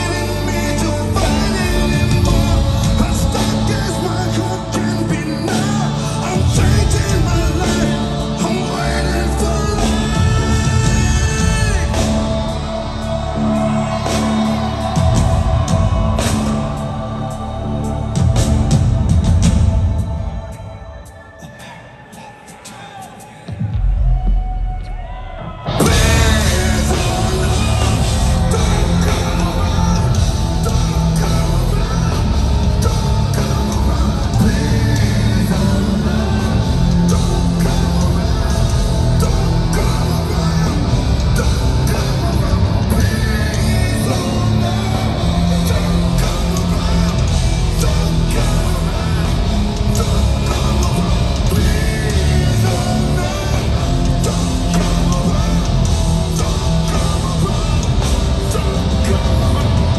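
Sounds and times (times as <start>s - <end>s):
metal band playing live: 0.0s - 21.2s, 23.5s - 59.9s
singer singing and yelling: 0.0s - 59.9s.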